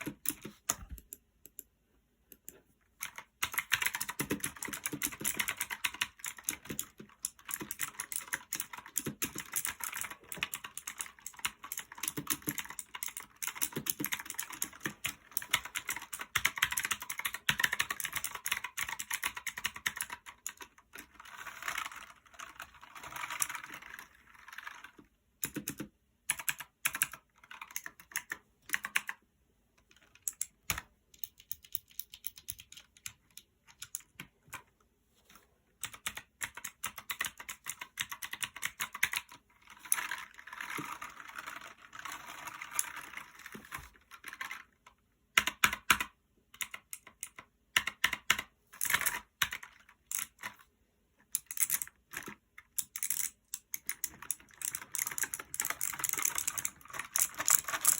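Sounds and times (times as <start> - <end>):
clicky mechanical keyboard typing: 0.0 - 1.7, 2.3 - 29.2, 29.9 - 34.7, 35.8 - 50.6, 51.2 - 57.9.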